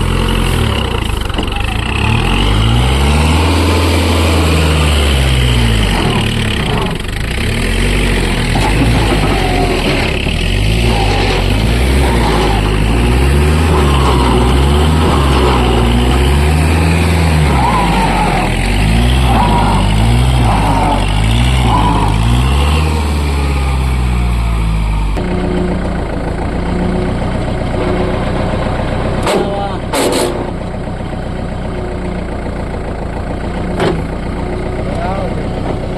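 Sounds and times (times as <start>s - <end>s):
tractor diesel engine revving: 0.0s - 35.9s.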